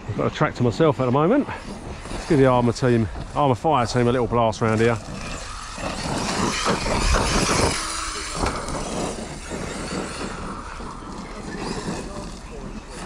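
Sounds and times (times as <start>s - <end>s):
tyres on dirt: 0.0s - 13.0s
electric rc car motor whine: 1.5s - 13.0s.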